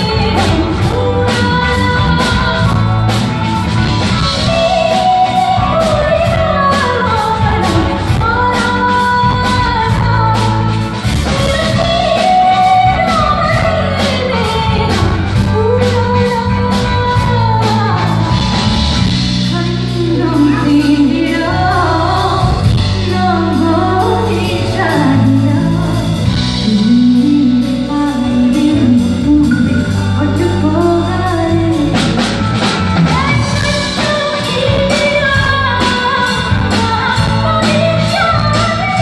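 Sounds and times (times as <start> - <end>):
electric guitar: 0.0 - 39.0
keyboard: 0.0 - 39.0
steady drum beat: 0.0 - 39.0
woman singing: 0.0 - 39.0.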